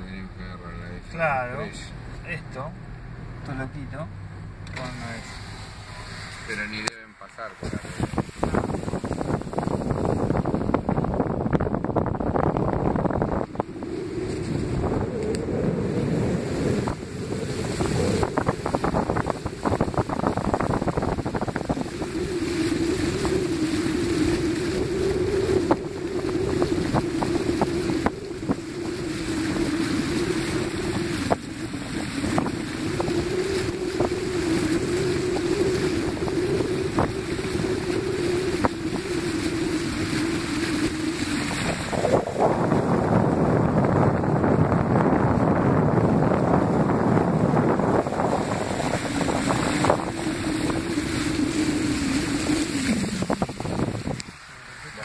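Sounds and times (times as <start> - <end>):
steady hum: 0.0 - 55.0
water splashing from wheels: 0.0 - 55.0
wind noise on microphone: 0.0 - 55.0.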